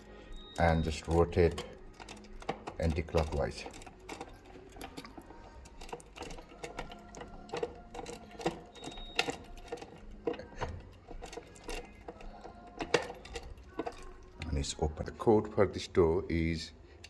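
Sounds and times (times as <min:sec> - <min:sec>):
key turning in lock: 0:00.0 - 0:15.2.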